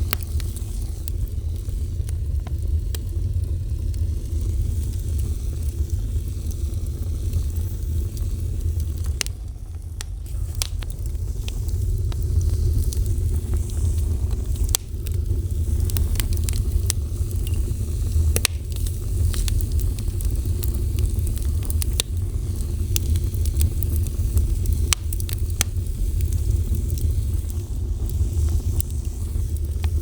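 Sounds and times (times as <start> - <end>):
fire crackles and pops: 0.0 - 30.0
fire roaring: 0.0 - 30.0.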